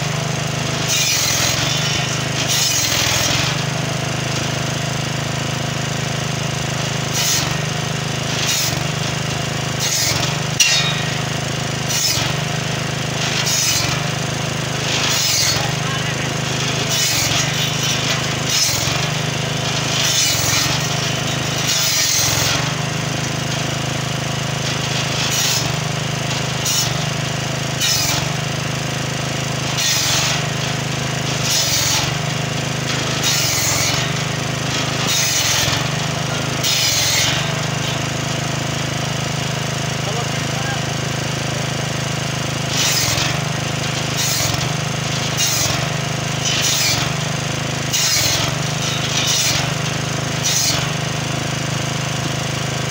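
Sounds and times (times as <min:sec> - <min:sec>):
saw blade rasping through logs: 0:00.0 - 0:52.9
small petrol engine running: 0:00.0 - 0:52.9.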